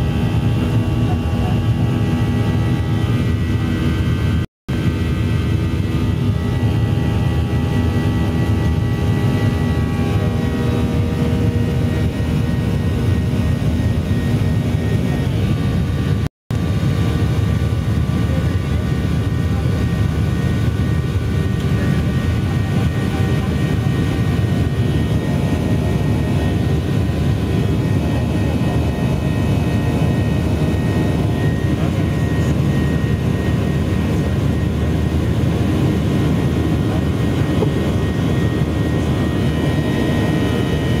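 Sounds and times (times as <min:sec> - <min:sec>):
aircraft engines rumbling: 0:00.0 - 0:41.0.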